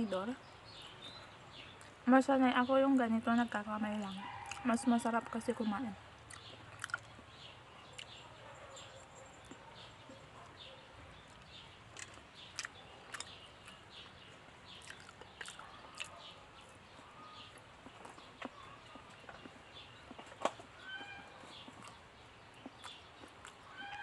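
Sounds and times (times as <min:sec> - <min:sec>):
small eating clicks and smacks: 0:03.9 - 0:24.0
soft chewing: 0:03.9 - 0:24.0.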